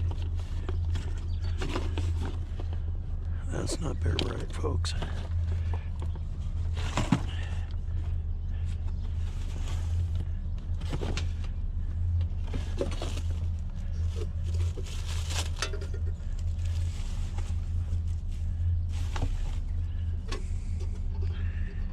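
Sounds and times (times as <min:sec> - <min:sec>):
low vehicle engine hum: 0:00.0 - 0:21.9.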